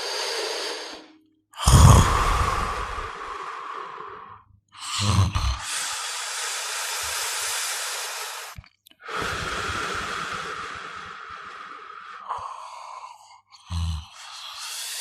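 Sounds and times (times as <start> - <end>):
person snoring: 0.0 - 15.0.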